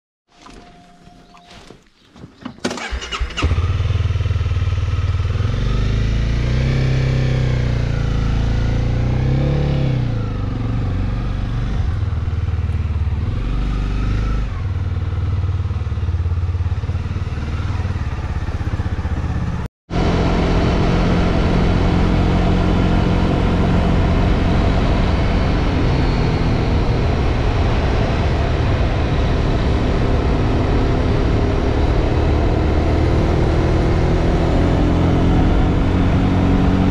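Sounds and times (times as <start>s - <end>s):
motorcycle engine accelerating: 2.7s - 36.9s.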